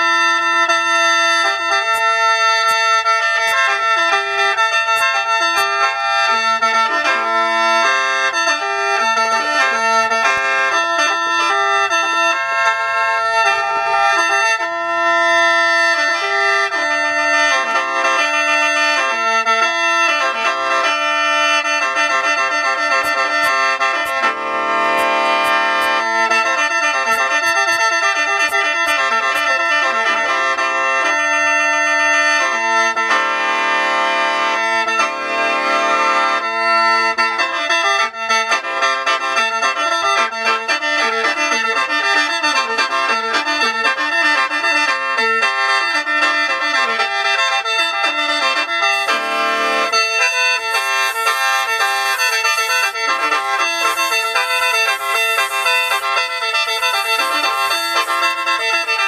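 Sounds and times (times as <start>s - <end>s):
instrumental music with drone: 0.0s - 59.0s.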